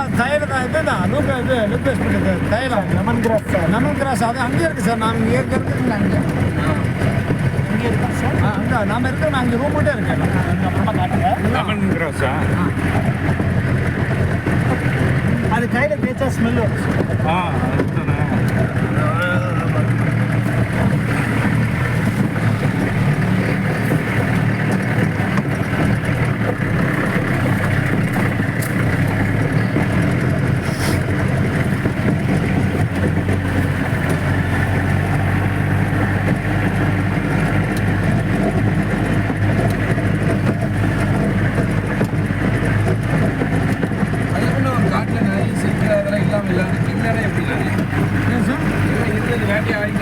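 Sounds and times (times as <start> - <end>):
jeep engine running: 0.0 - 50.0.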